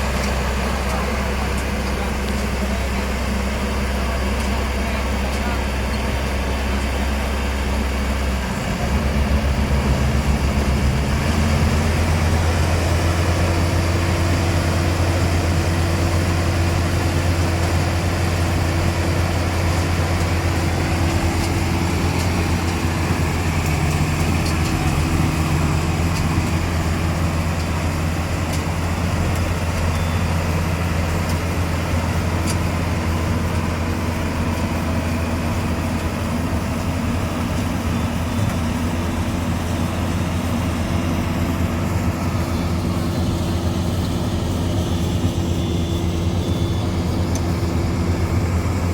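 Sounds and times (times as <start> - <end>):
combine harvester engine humming: 0.0 - 48.9.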